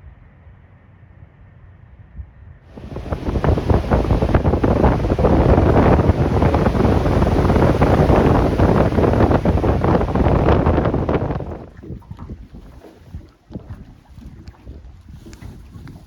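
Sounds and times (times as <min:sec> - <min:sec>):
wind buffeting microphone: 0:02.7 - 0:16.0.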